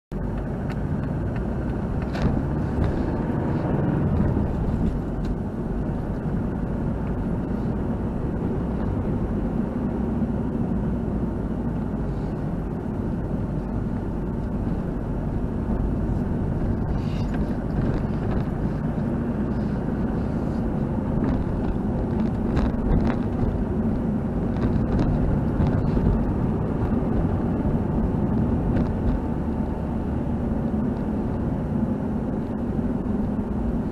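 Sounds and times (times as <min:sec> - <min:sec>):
car engine and tyres hum: 0:00.1 - 0:33.9.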